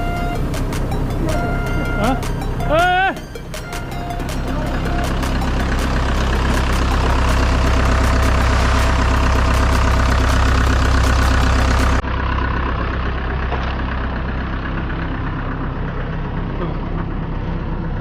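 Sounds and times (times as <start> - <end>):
diesel engine clattering: 0.0 - 18.0.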